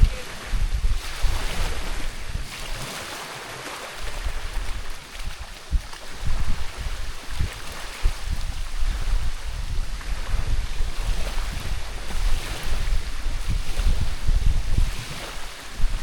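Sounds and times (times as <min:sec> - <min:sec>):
wind buffeting microphone: 0:00.0 - 0:03.3, 0:03.9 - 0:16.0
small waves washing in: 0:00.0 - 0:16.0.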